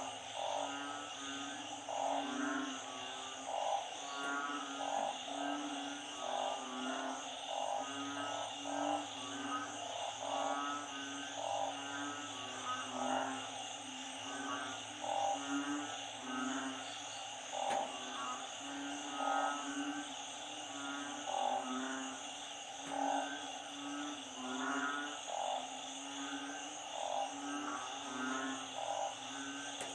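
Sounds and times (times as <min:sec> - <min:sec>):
frogs calling: 0:00.0 - 0:29.9.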